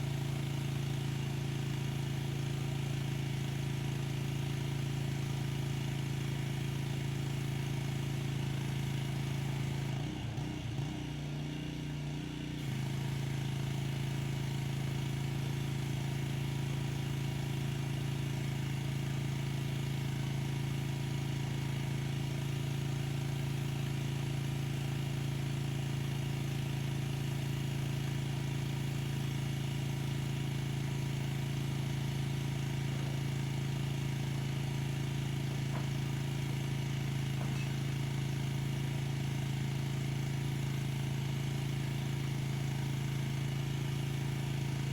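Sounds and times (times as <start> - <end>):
pressure washer running: 0.0 - 44.9.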